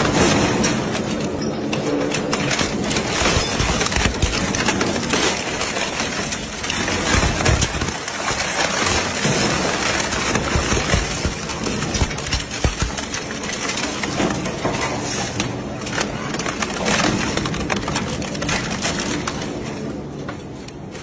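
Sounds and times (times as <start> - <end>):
shredder crunching metal and plastic: 0.0 - 20.2.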